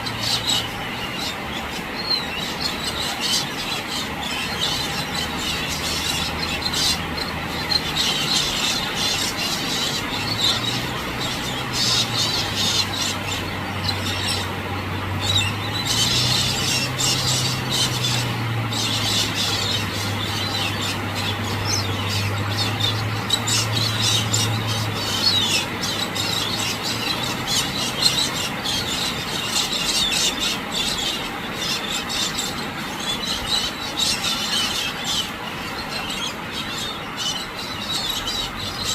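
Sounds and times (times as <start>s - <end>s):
birds screeching: 0.0s - 38.9s.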